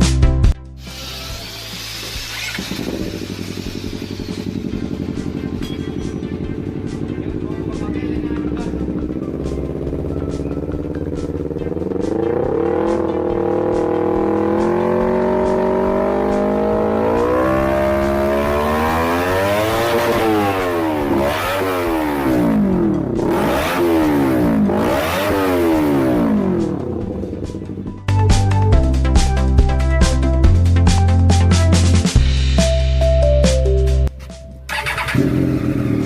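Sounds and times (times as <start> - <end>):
motorcycle engine revving: 0.8 - 28.4, 34.7 - 36.0.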